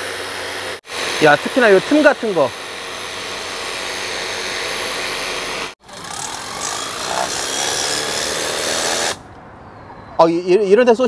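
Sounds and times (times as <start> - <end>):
pressure washer spraying glass: 0.0 - 9.2.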